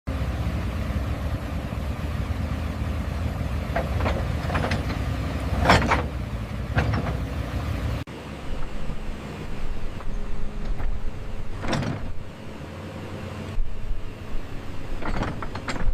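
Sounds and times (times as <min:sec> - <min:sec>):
vehicle engine rumble: 0:00.1 - 0:15.9.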